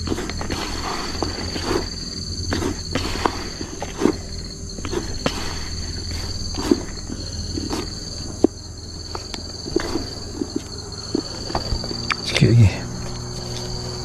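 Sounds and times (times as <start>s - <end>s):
handling knocks and squelches: 0.0s - 14.0s
insects droning: 0.0s - 14.0s.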